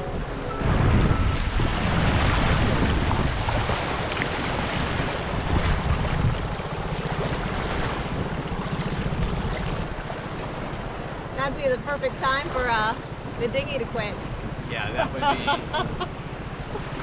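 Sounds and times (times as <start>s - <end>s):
rushing churning water: 0.0s - 17.0s
wind buffeting microphone: 0.0s - 17.0s.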